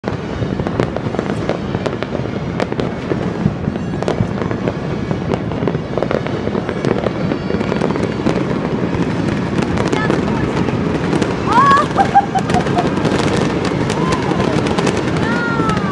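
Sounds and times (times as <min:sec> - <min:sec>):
distant fireworks bangs: 0:00.0 - 0:15.9
firecrackers cracking: 0:00.0 - 0:15.9.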